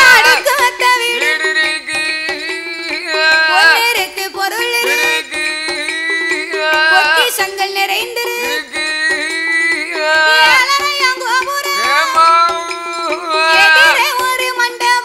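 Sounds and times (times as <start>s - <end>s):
percussion beat: 0.0s - 15.0s
person singing ornamented melody: 0.0s - 15.0s.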